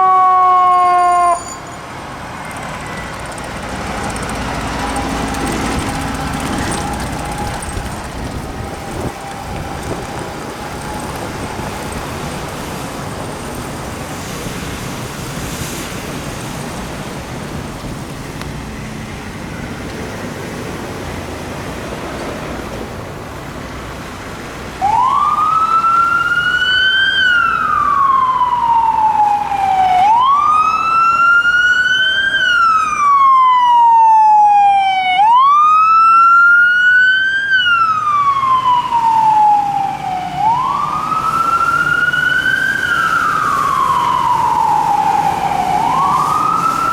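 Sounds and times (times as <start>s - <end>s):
fire truck siren wailing: 0.0s - 16.6s, 24.0s - 46.9s
street traffic noise: 0.0s - 46.9s.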